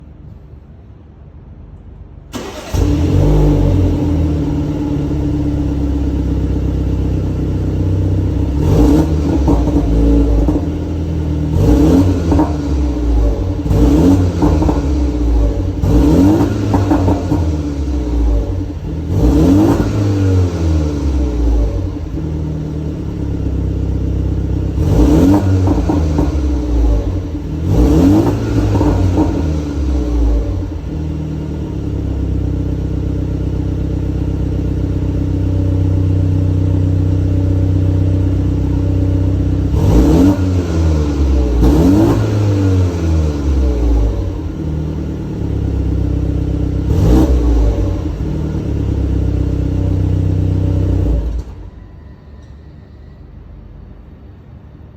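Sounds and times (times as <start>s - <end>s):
car engine revving: 2.3s - 51.6s.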